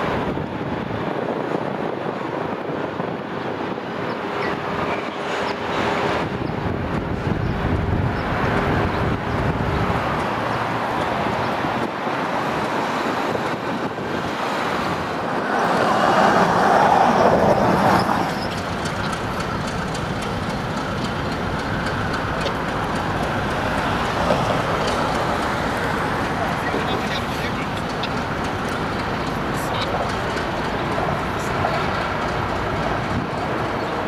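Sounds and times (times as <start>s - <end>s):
diesel locomotive engine: 0.0s - 34.0s
road traffic noise: 0.0s - 34.0s
train wheels on rails: 0.0s - 34.0s.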